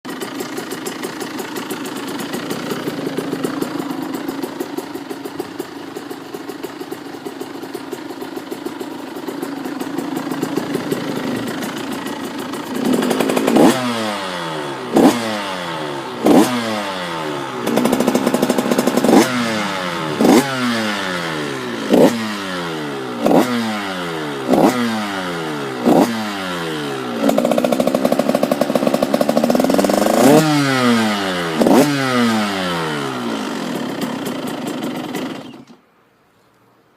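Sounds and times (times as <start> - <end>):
two-stroke motocross engine revving: 0.0 - 35.8.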